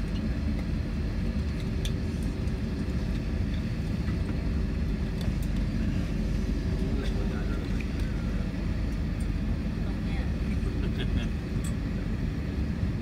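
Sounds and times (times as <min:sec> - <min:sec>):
low aircraft cabin rumble: 0:00.0 - 0:13.0.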